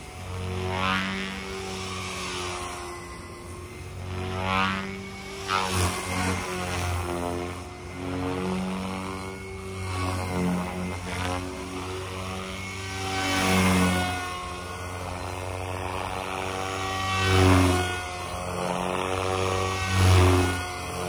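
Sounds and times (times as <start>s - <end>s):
electric motor whining: 0.0s - 21.0s
rc helicopter rotor whirring: 0.0s - 21.0s
rotor blade whooshes: 0.3s - 21.0s.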